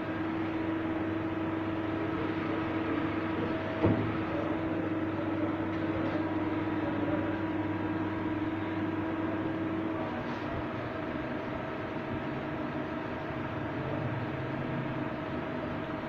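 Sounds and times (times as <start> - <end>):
lathe machine hum: 0.0 - 16.0.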